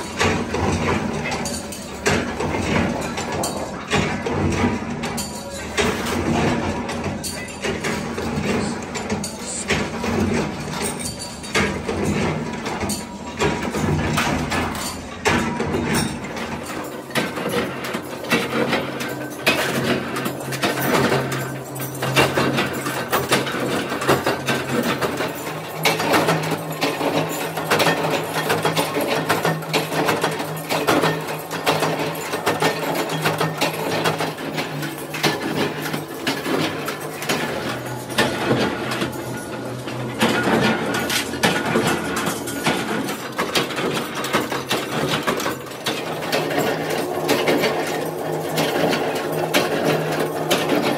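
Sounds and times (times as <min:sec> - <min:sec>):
sheet-steel strips clanking: 0:00.0 - 0:50.9
workshop machinery humming: 0:00.0 - 0:50.9.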